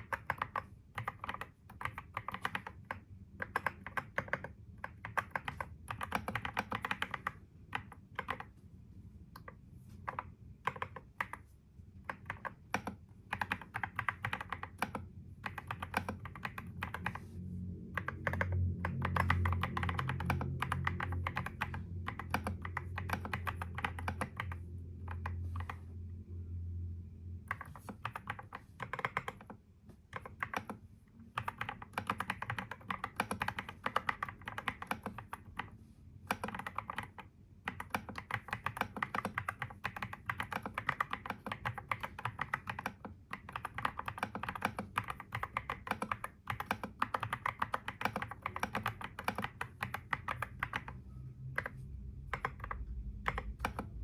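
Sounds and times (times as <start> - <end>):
fast typing on a keyboard: 0.0 - 8.6, 9.4 - 25.8, 27.5 - 54.0
low steady hum: 0.0 - 54.0.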